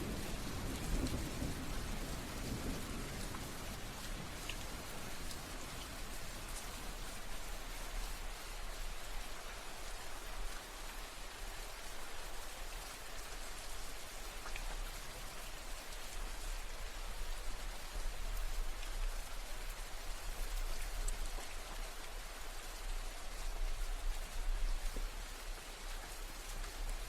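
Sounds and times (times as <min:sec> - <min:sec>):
steady rain hiss: 0:00.0 - 0:27.0.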